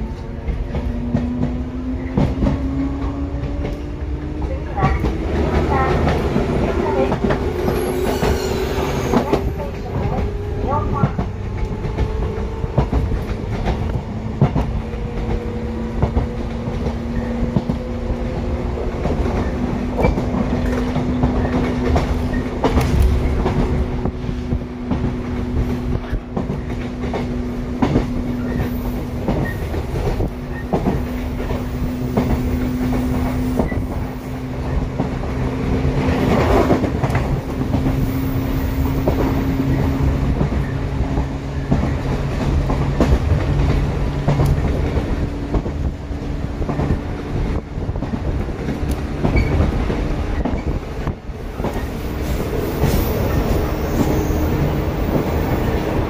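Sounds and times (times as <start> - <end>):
train motor hum: 0.0 - 56.0.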